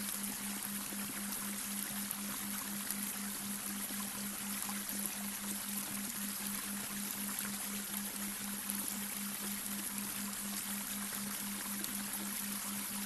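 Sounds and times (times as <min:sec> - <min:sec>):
brook water running over stones: 0:00.0 - 0:13.0.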